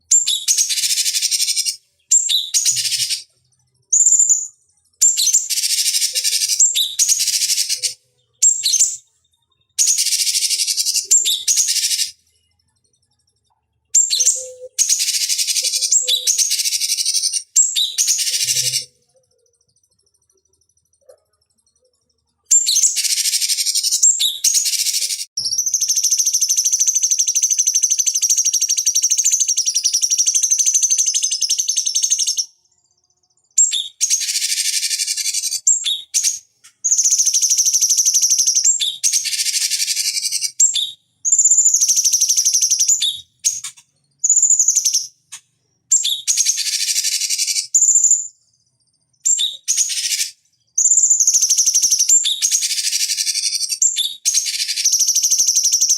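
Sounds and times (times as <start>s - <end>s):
bird singing rapid chattering phrases: 0.0s - 55.9s.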